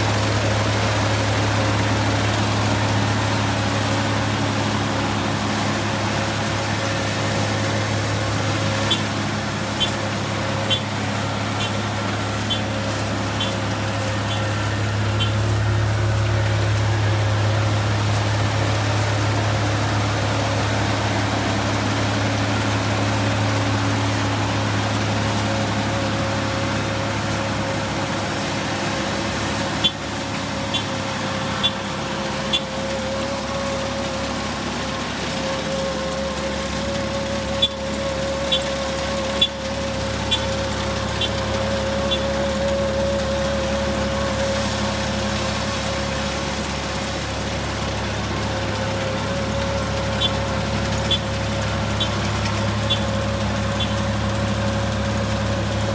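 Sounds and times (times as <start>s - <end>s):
harvester engine running: 0.0s - 55.9s.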